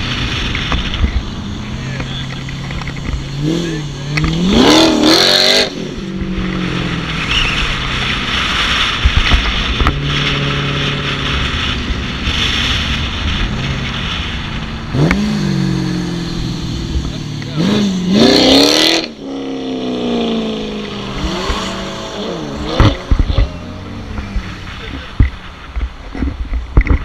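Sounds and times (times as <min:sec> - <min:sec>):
car engine revving: 0:00.0 - 0:26.3.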